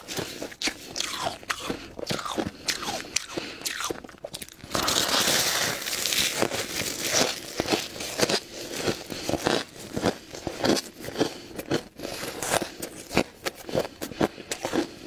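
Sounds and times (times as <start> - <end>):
ice being chewed: 0.0 - 15.0.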